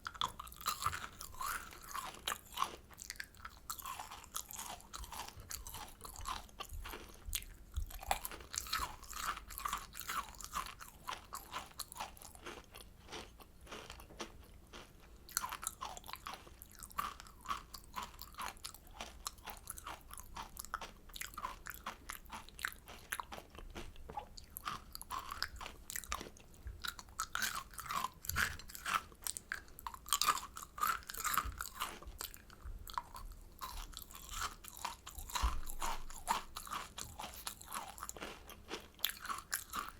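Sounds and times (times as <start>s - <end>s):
candy crunching between teeth: 0.0s - 39.9s.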